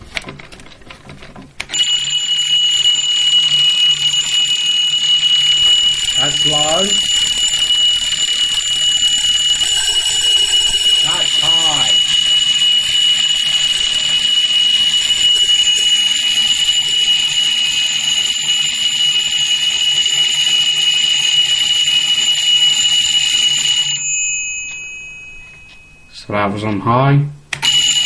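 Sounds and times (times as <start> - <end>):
alarm clock bell ringing: 1.7 - 26.2, 27.6 - 28.0.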